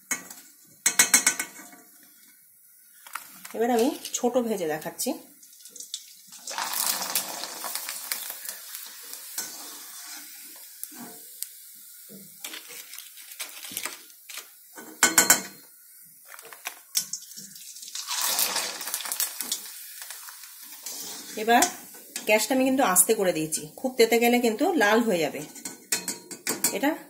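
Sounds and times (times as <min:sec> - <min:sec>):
food sizzling in hot oil: 0:00.0 - 0:26.9.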